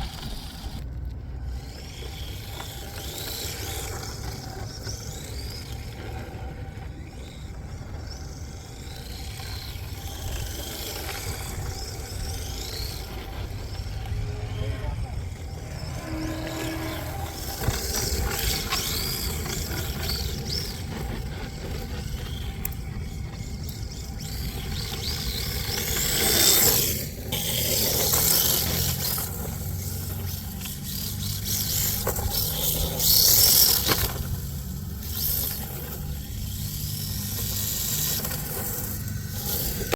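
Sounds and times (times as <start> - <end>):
electric motor whining: 0.0 - 39.9
tyres scraping on pavement: 0.0 - 39.9.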